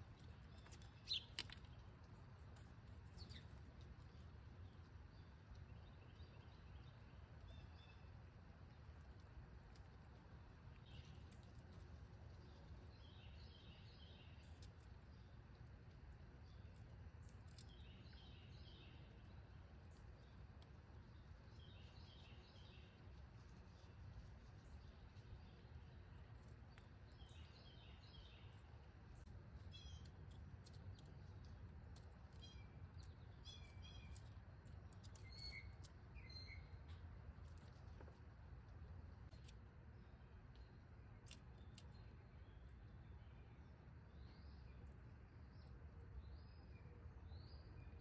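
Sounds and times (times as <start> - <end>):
songbird song: 0.0 - 48.0.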